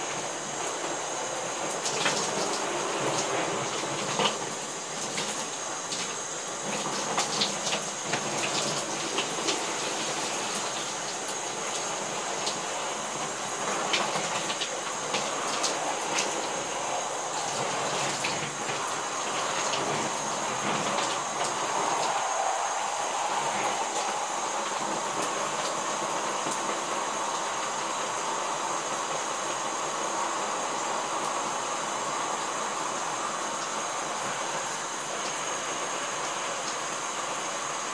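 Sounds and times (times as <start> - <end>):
shower spray running: 0.0 - 37.9.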